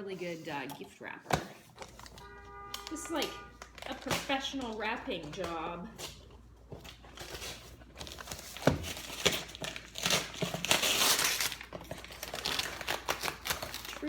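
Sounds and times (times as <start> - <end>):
wrapping paper tearing and crinkling: 1.8 - 14.0.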